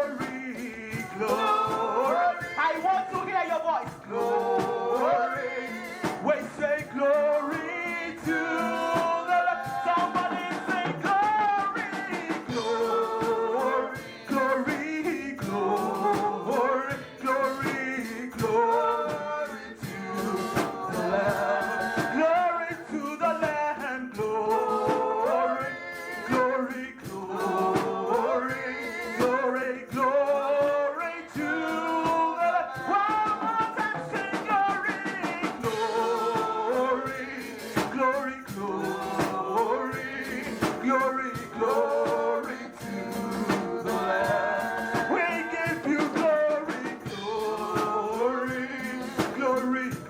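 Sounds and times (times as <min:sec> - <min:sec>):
drum kit: 0:00.0 - 0:50.0
voices singing: 0:00.0 - 0:50.0
worship band playing: 0:00.0 - 0:50.0.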